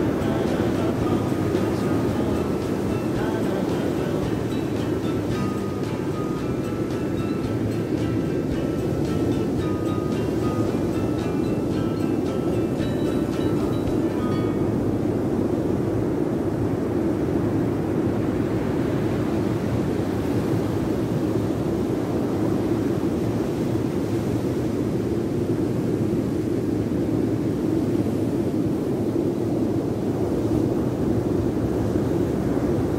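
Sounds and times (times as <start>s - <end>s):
heavy surf on rocky beach: 0.0s - 32.9s
wind: 0.0s - 32.9s.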